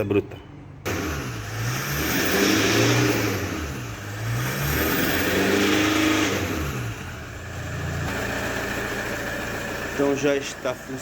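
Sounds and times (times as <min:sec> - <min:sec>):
diesel engine revving: 0:00.8 - 0:11.0.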